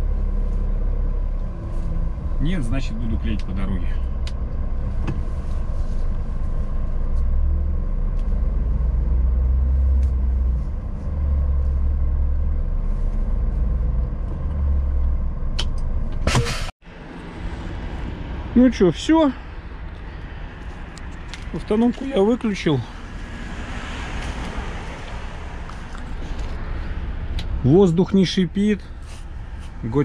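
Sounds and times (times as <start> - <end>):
truck diesel engine rumbling: 0.0 - 30.0.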